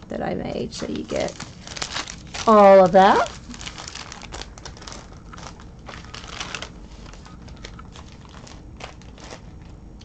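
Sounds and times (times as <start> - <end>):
plastic bags and fabric rustling: 0.5 - 9.8.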